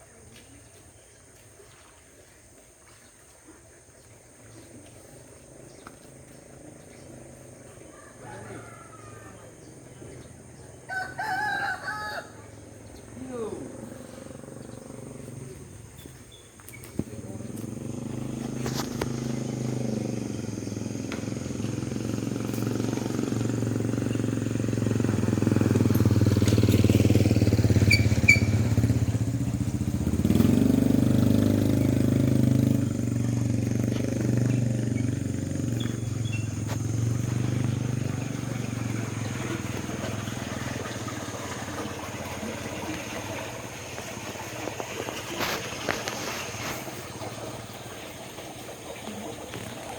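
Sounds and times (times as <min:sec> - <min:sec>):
small engine passing: 0:03.9 - 0:49.9.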